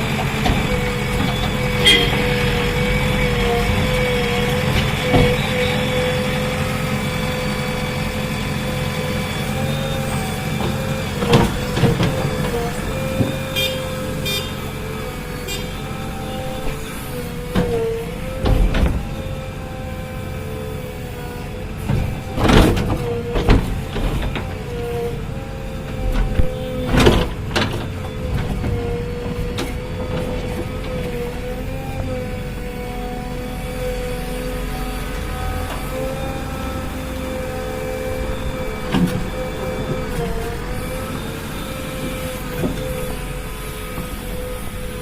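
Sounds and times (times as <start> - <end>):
diesel engine under load: 0.0 - 45.0
hydraulic whine: 0.0 - 45.0.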